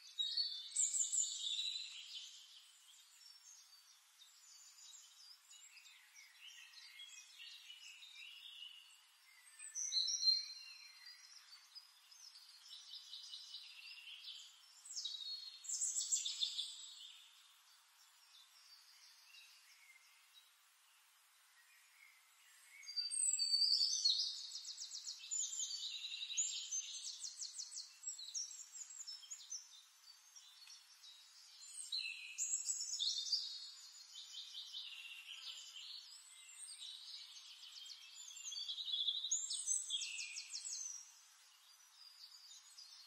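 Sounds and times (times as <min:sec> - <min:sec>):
birds chirping and singing: 0:04.4 - 0:20.2, 0:22.8 - 0:43.0.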